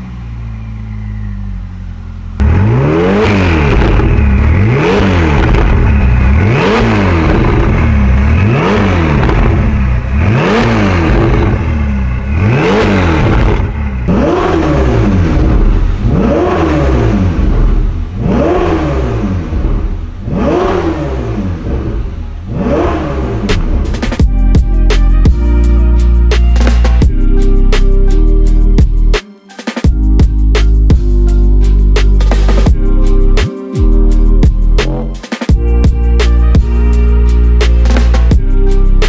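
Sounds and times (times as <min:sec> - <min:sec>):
sports car engine revving: 0:00.0 - 0:28.9, 0:30.8 - 0:35.2.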